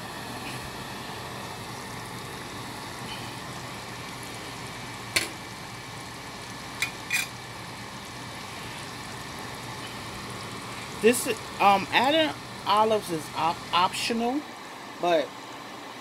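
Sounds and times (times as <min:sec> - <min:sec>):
pot simmering: 0:00.0 - 0:16.0.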